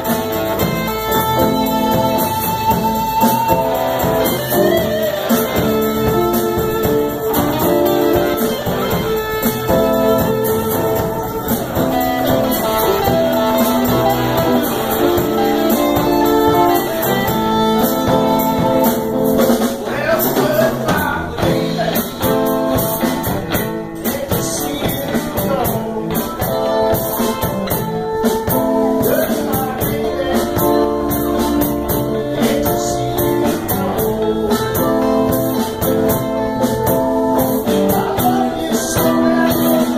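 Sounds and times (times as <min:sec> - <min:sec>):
live blues band playing: 0:00.0 - 0:39.9.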